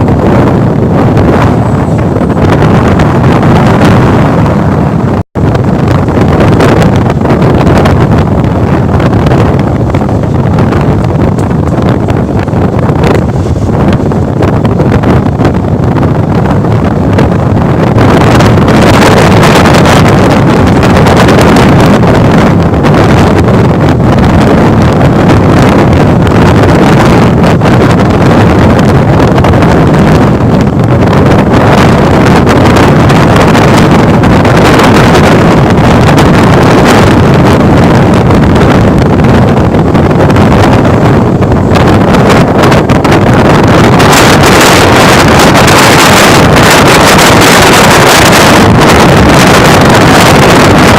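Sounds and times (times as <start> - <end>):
train running at speed: 0.0 - 50.9
wind buffeting microphone: 0.0 - 50.9.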